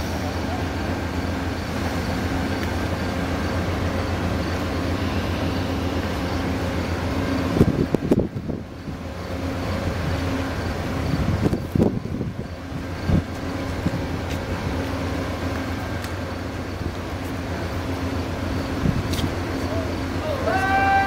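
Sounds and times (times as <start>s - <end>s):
train idling hum: 0.0s - 21.0s.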